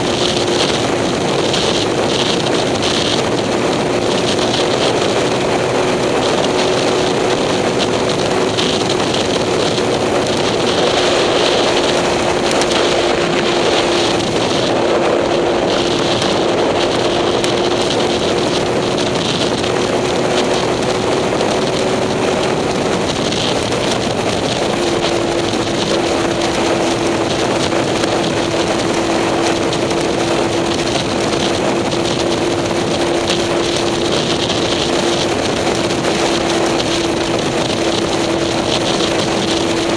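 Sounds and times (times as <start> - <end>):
vehicle engine running: 0.0 - 39.9
wind noise on microphone: 0.0 - 39.9.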